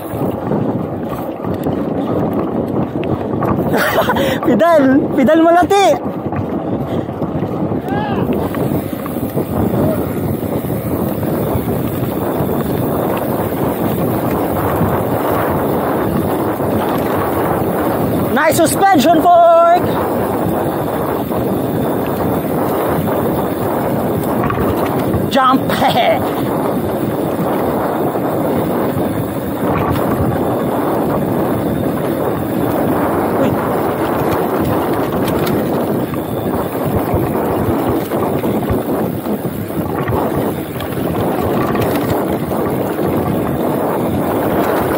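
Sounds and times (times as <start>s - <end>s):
bike tyres rumbling over dirt: 0.0s - 44.9s
wind buffeting microphone: 0.0s - 44.9s.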